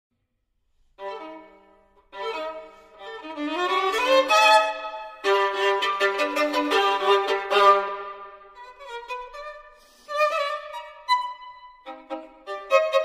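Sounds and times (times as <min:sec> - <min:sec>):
solo violin playing: 0:01.0 - 0:13.0.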